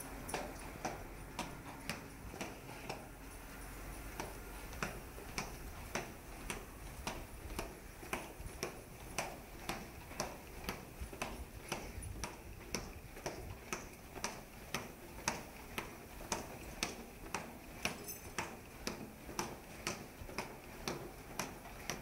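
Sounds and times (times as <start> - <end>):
clicking footsteps: 0.0 - 22.0.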